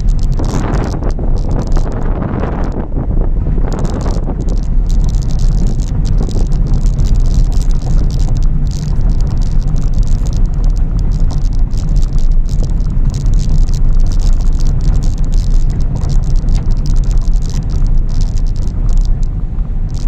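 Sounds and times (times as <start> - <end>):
car interior rattles and clicks: 0.0 - 20.0
tyres rumbling on dirt track: 0.0 - 20.0.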